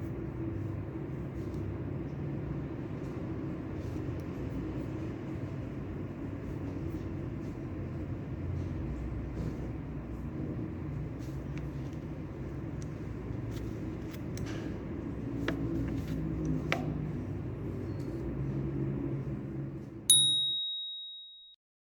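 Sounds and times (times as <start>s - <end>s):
low room rumble: 0.0s - 20.1s.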